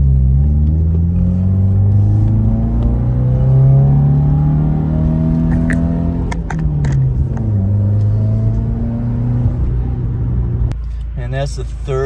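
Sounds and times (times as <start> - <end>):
car engine pulling in gear: 0.0 - 10.7.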